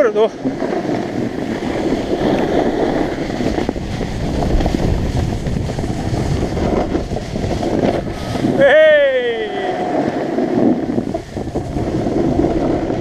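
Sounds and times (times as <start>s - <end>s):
skis scraping on packed snow: 0.0s - 13.0s
wind rushing over microphone: 0.0s - 13.0s.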